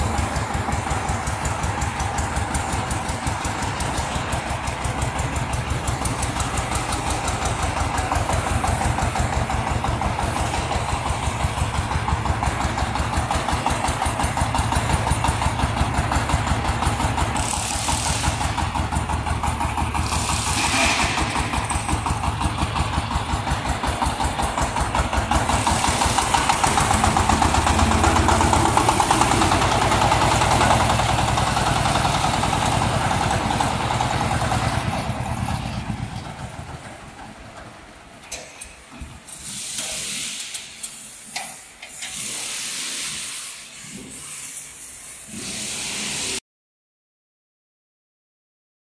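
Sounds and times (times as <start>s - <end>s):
small tractor engine putter: 0.0s - 42.6s.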